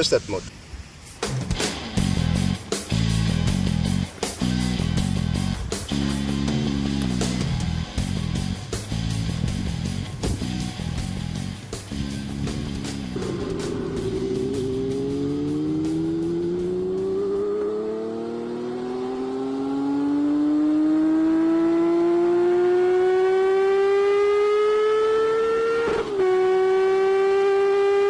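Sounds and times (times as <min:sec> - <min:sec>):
motorcycle engine accelerating: 0:02.0 - 0:28.0.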